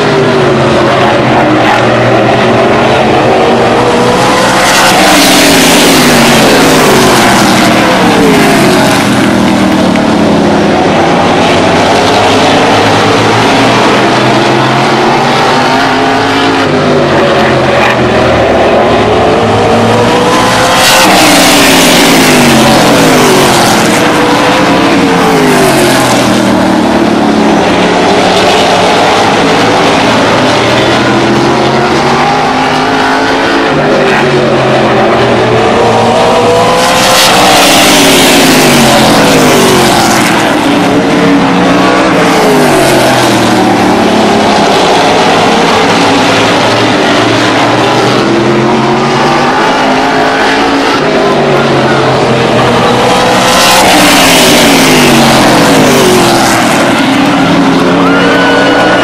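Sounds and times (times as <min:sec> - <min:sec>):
race car engines racing: 0:00.0 - 0:59.0.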